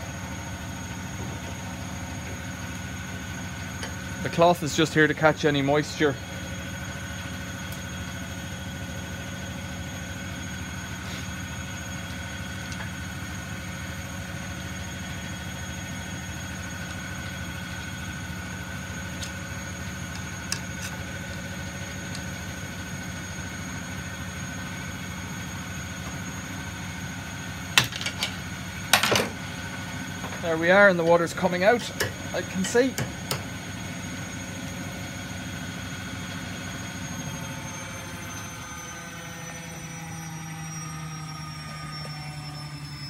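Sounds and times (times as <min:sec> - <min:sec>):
steady machine hum: 0:00.0 - 0:43.0.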